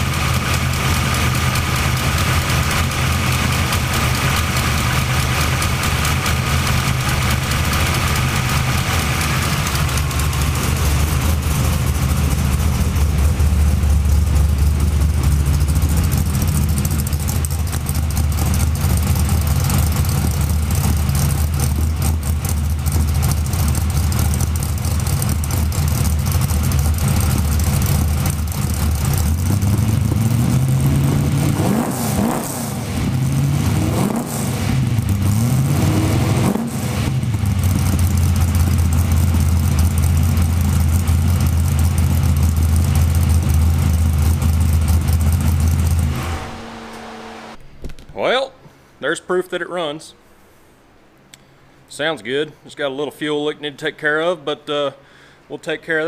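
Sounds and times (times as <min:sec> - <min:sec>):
car engine idling and revving: 0:00.0 - 0:47.7.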